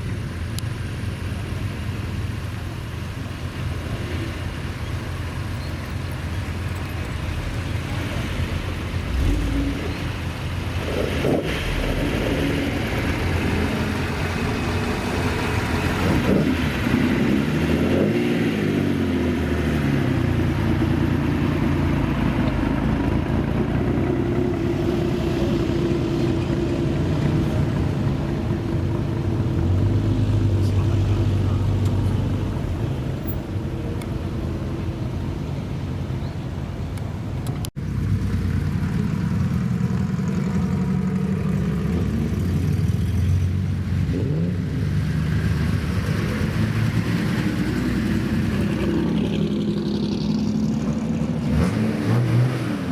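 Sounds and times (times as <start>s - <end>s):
old car engines revving: 0.0s - 52.9s.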